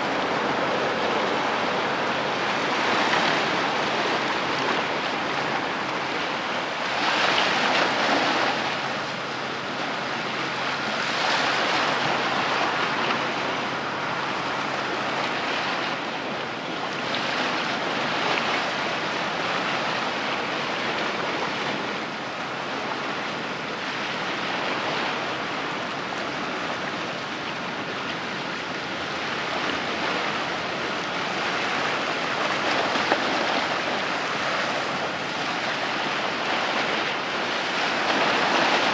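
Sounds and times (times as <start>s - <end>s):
waves washing against shore: 0.0s - 38.9s.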